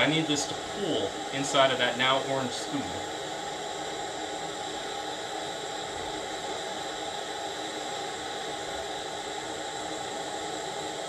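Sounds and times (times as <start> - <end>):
propane torch hissing: 0.0 - 11.0.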